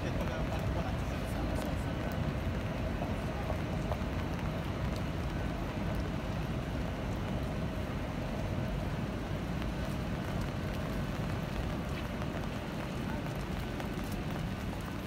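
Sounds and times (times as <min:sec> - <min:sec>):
rain on wet street: 0:00.0 - 0:15.0.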